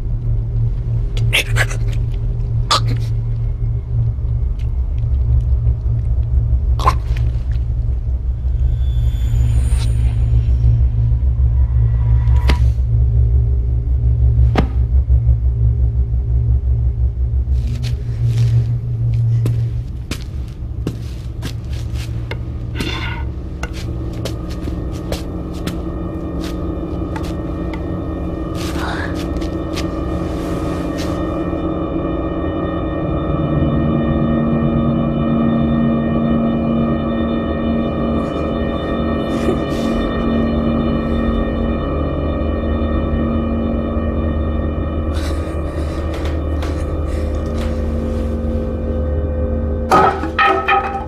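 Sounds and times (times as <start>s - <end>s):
low steady drone: 0.0s - 51.0s.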